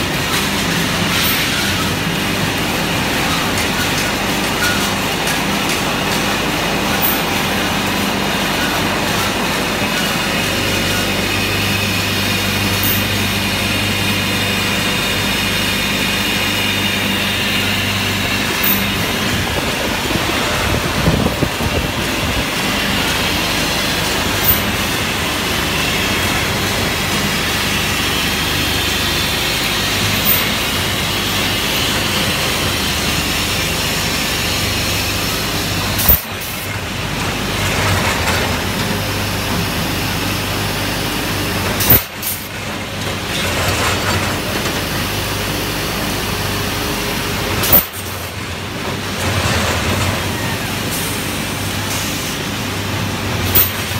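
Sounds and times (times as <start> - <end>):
machinery din with low hum: 0.0 - 53.9.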